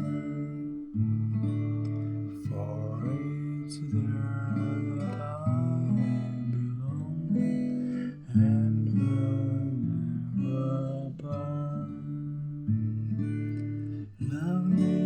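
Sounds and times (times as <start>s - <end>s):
soft sung or hummed melody: 0.0s - 15.0s
strummed acoustic guitar: 0.0s - 15.0s.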